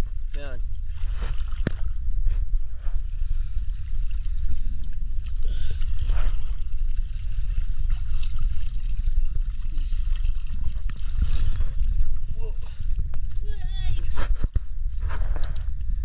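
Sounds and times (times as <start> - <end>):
deep rumble: 0.0 - 16.0
water gurgling and sloshing: 0.0 - 16.0.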